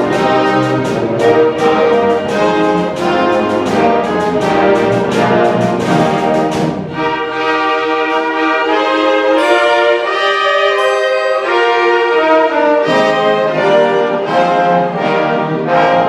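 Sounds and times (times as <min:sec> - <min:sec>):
symphony orchestra with brass chords: 0:00.0 - 0:16.0.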